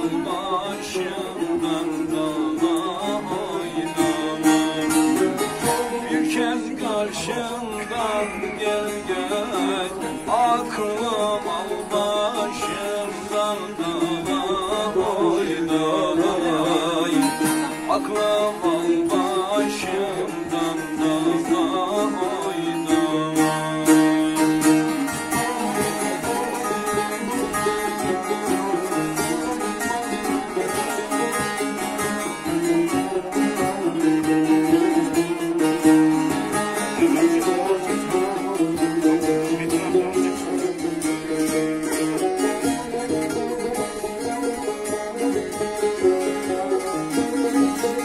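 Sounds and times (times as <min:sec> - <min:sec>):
plucked lute melody over drone: 0:00.0 - 0:48.0.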